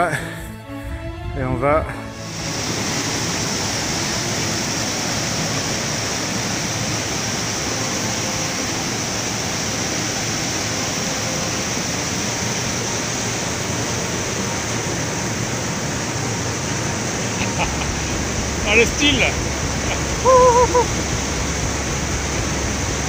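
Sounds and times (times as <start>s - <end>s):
water rushing over rocks: 2.2s - 23.0s.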